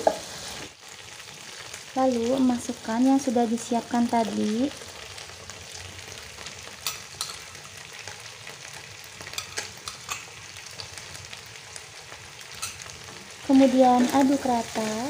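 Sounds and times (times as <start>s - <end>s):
sizzling in a frying pan: 0.0s - 15.0s.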